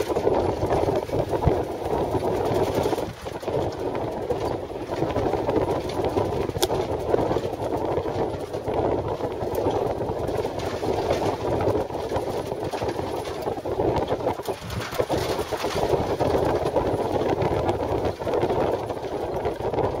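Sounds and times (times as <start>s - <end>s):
engine and tyre rumble: 0.0s - 20.0s
rattles and knocks from bumps: 0.0s - 20.0s.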